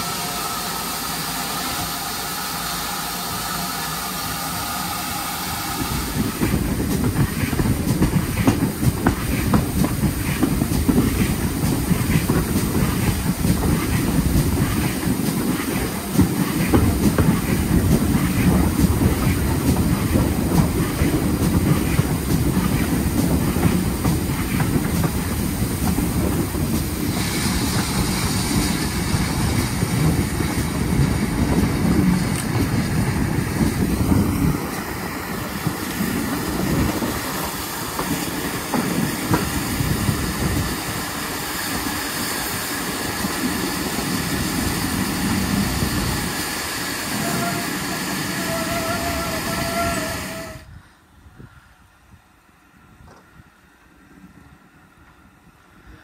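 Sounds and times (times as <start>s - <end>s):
steam hissing: 0.0s - 50.8s
train wheels rumbling on rails: 0.0s - 56.0s.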